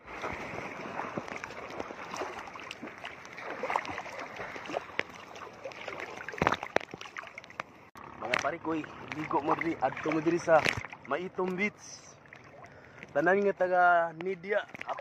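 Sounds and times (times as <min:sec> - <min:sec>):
sea water sloshing and splashing: 0:00.0 - 0:13.8, 0:14.5 - 0:15.0.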